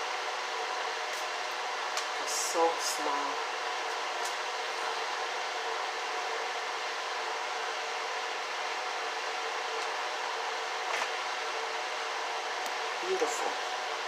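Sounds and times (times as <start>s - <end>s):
whirring hiss with faint hum: 0.0s - 14.0s.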